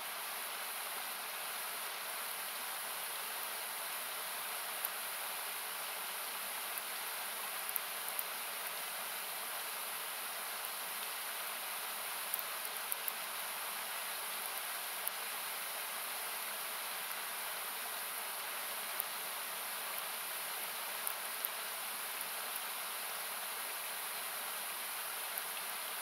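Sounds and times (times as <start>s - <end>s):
campfire crackles: 0.6s - 26.0s.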